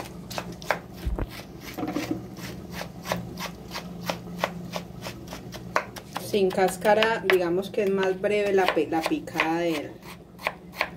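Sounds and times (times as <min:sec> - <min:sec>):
knife chopping on wooden board: 0:00.3 - 0:10.9.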